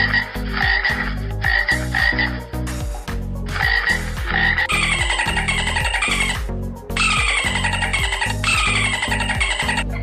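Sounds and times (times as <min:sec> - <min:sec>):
frog croaking: 0:00.0 - 0:02.5, 0:03.5 - 0:10.0.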